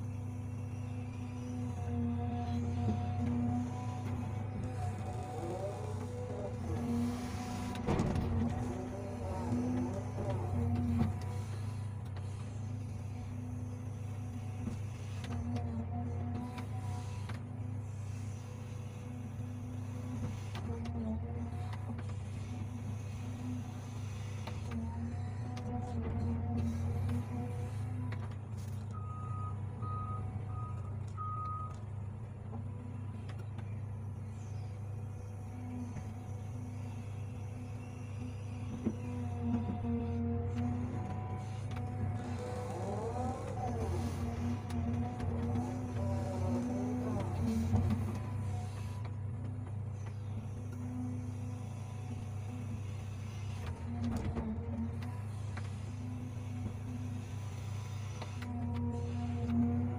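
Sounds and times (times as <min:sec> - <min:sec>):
diesel engine running: 0:00.0 - 0:59.9
hydraulic whine: 0:00.0 - 0:59.9.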